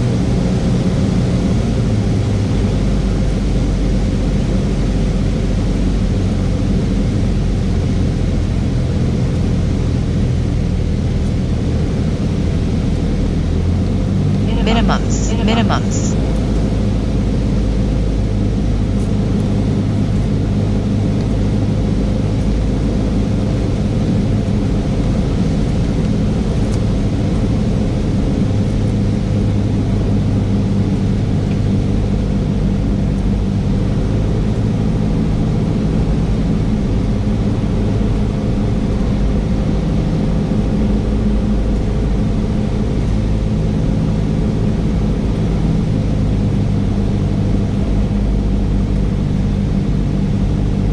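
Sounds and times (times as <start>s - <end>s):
aircraft engine and propeller droning: 0.0s - 14.6s, 16.1s - 50.9s.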